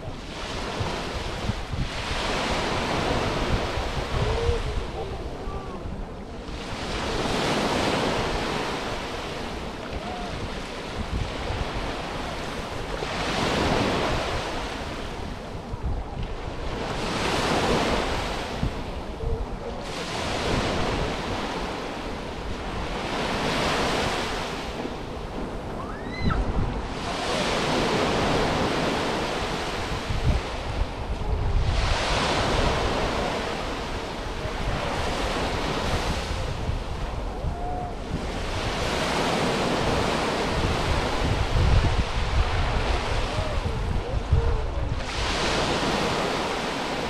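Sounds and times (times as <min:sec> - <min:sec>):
waves washing up a beach: 0:00.0 - 0:47.0
wind rumble on microphone: 0:00.0 - 0:47.0.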